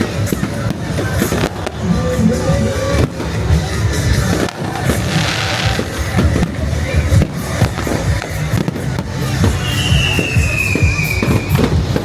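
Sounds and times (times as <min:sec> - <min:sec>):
firework hiss: 0:00.0 - 0:12.0
fireworks bangs and booms: 0:00.0 - 0:12.0
music: 0:00.0 - 0:12.0.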